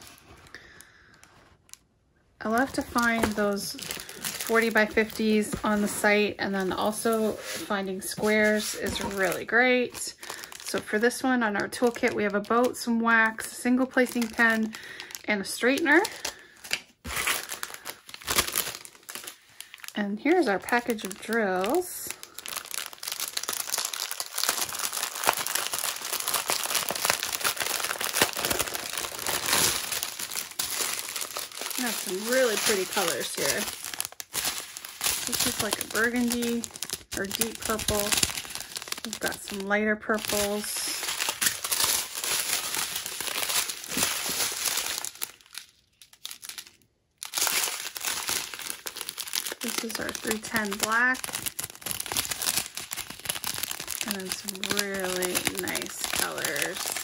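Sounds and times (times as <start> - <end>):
plastic bag crinkling: 0.0 - 1.8, 2.4 - 57.0.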